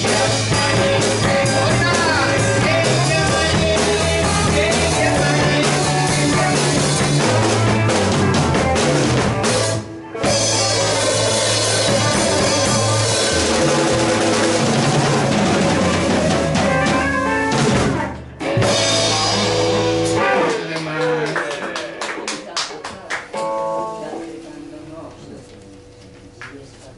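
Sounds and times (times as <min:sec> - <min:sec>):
rock band playing: 0:00.0 - 0:26.2.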